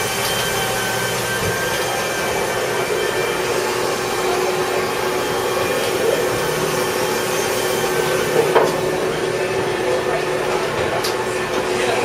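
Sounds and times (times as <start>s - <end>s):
machine drone: 0.0s - 12.0s.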